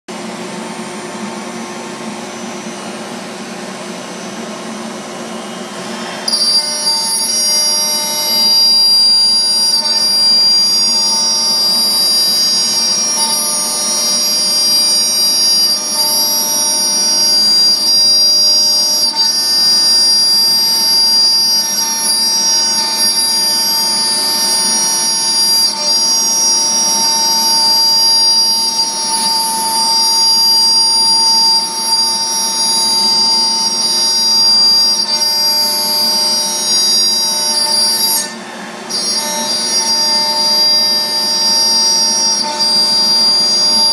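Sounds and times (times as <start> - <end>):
router bit cutting with high whine: 0.1 - 43.9
router spindle running: 2.4 - 43.9.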